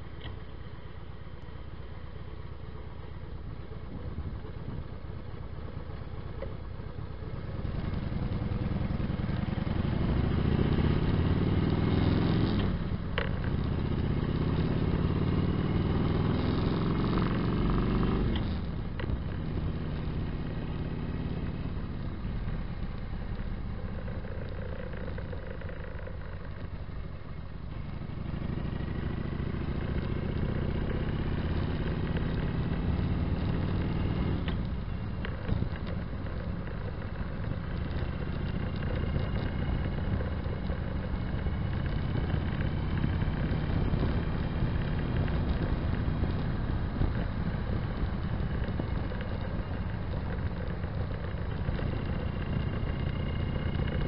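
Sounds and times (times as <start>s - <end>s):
motorcycle engine accelerating: 3.9s - 54.0s.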